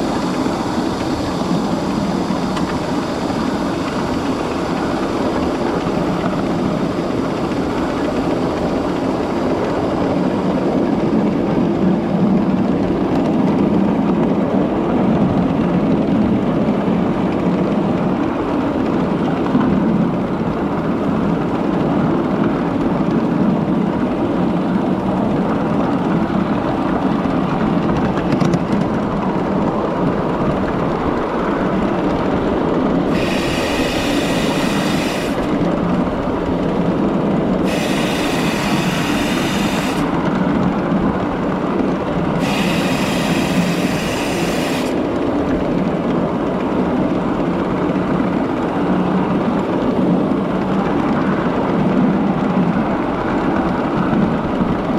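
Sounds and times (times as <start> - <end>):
miniature train running: 0.0 - 54.9.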